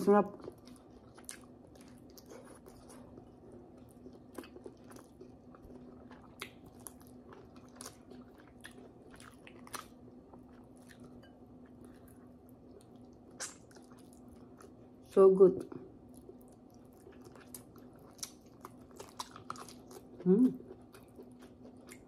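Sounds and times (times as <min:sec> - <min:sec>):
faint steady hum: 0:00.0 - 0:22.0
chewing and biting: 0:00.4 - 0:14.8, 0:16.0 - 0:22.0.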